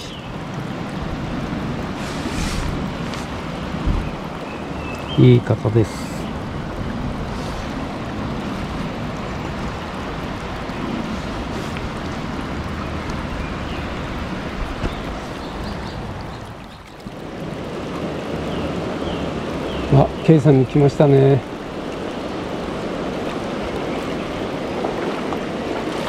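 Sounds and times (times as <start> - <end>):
stream flowing over stones: 0.0 - 26.0.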